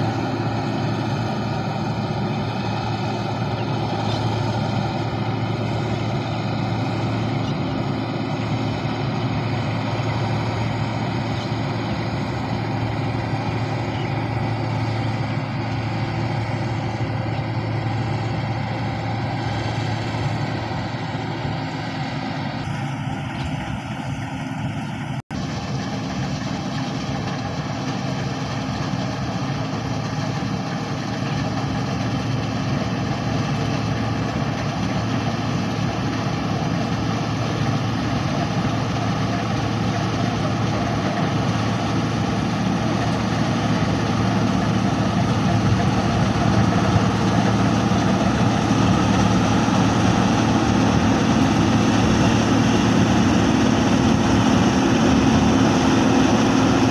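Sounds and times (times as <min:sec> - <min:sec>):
combine harvester running: 0:00.0 - 0:56.9.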